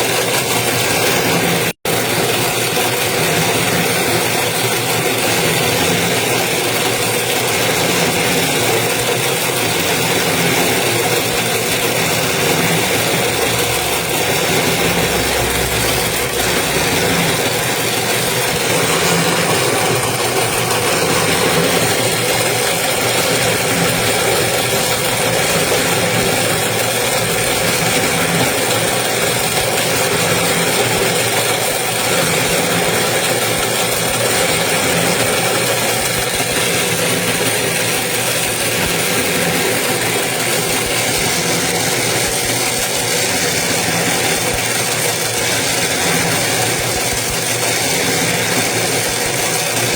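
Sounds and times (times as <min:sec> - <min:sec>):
winding machine motor humming: 0:00.0 - 0:49.9.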